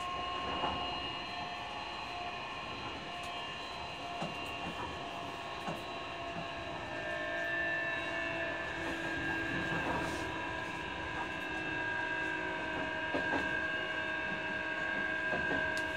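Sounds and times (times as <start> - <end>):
electric train motor whine: 0.0 - 15.9.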